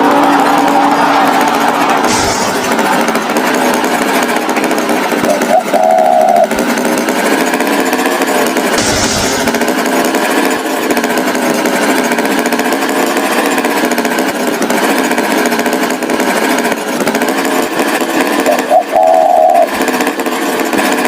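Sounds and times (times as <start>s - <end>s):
tractor engine running rough: 0.0s - 21.0s.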